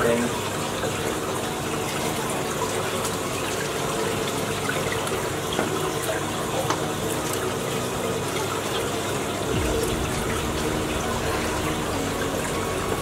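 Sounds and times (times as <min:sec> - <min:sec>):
churning water splashing: 0:00.0 - 0:13.0.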